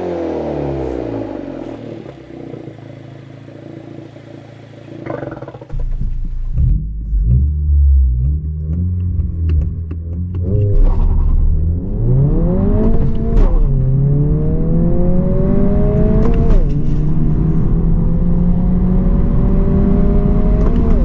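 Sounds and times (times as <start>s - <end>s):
car engine revving: 0.0s - 21.0s
deep exhaust drone: 0.0s - 21.0s.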